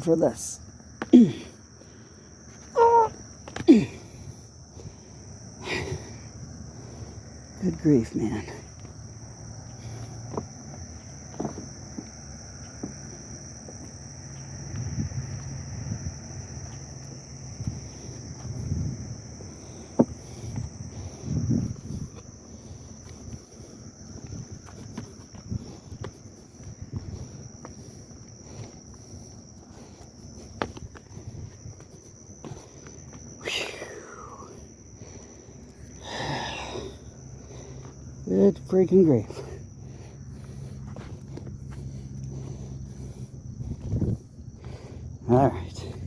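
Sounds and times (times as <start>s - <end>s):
insects chirping: 0.0s - 46.0s.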